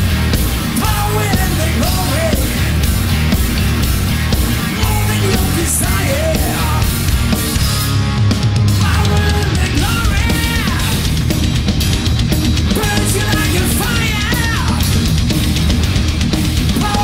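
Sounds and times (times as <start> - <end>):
drum kit: 0.0 - 17.0
electric bass guitar: 0.0 - 17.0
electric guitar: 0.0 - 17.0.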